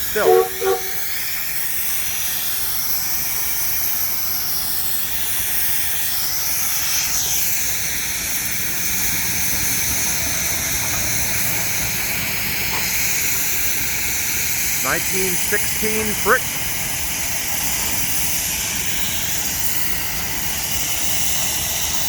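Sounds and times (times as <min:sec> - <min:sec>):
steam engine hissing steam: 0:00.0 - 0:22.0.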